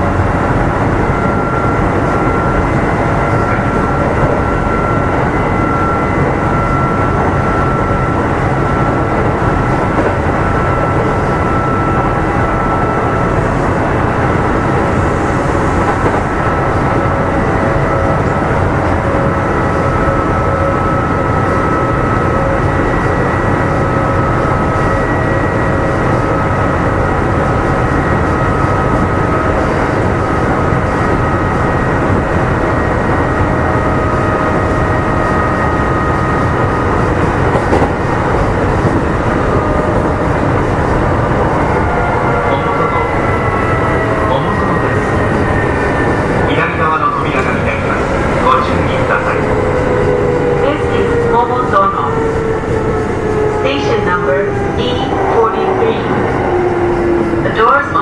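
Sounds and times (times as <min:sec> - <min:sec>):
wheels rumbling on rail: 0:00.0 - 0:58.0.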